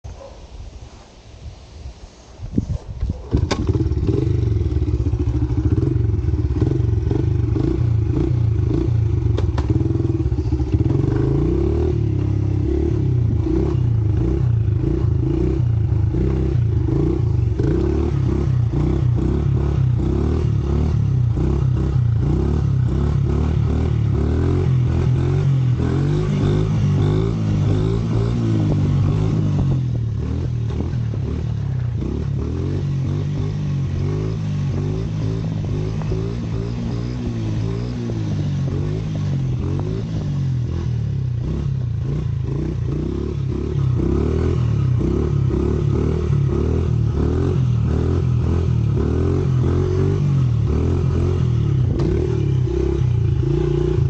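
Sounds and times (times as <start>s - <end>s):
small motorbike engine revving: 3.3s - 54.0s.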